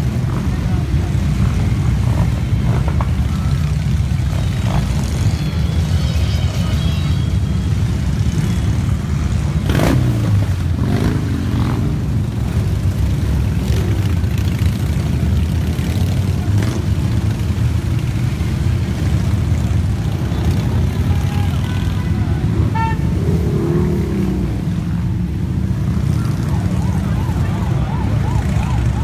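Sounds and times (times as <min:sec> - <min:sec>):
motorcycle engines revving: 0:00.0 - 0:29.0
motorcycles riding past: 0:00.0 - 0:29.0.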